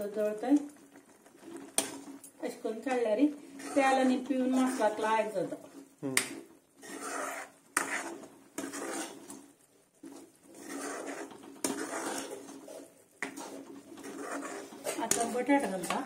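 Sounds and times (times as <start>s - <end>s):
spoon scraping metal pan: 1.4s - 5.5s, 6.8s - 16.0s.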